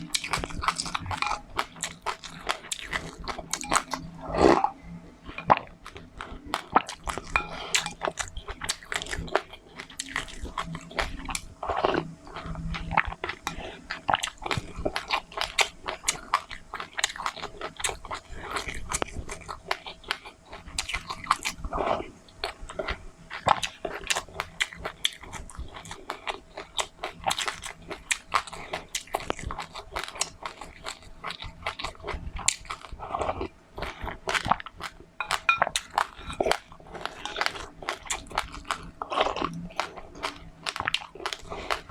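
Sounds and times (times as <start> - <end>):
chewing and crunching seeds: 0.0 - 41.9.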